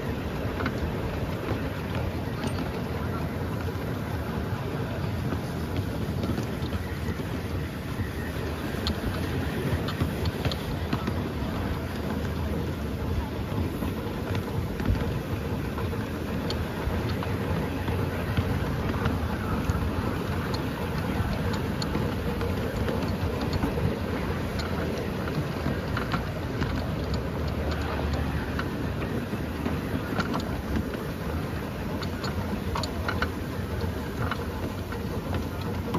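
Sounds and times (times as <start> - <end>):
steam locomotive rumble and hiss: 0.0 - 35.9.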